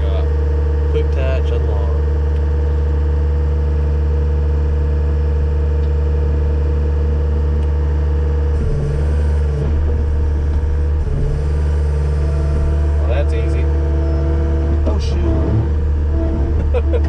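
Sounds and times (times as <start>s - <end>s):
loader diesel engine running: 0.0s - 17.0s.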